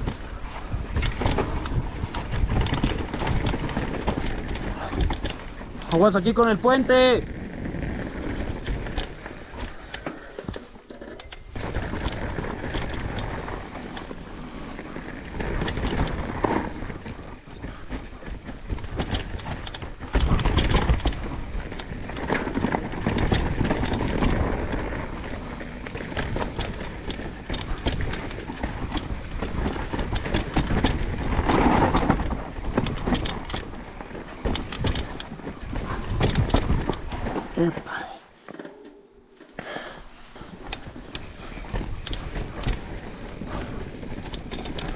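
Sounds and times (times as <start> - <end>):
bike tyres over dirt and rocks: 0.0 - 38.6, 39.4 - 44.9
bike rattling and clicking: 0.0 - 44.9.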